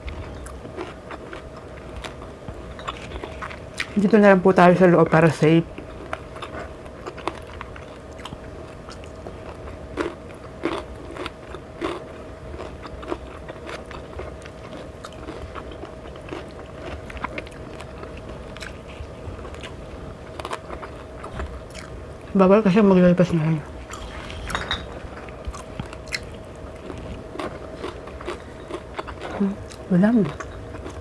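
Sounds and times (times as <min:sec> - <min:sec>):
person chewing and crunching: 0:00.0 - 0:04.2, 0:05.7 - 0:22.0, 0:23.8 - 0:31.0.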